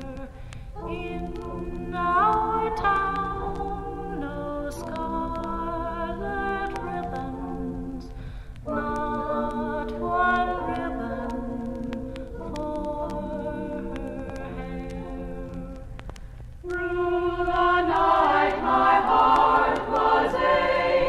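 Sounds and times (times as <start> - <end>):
women singing in close harmony: 0.0 - 16.0, 16.6 - 21.0
record surface noise clicks: 0.0 - 21.0.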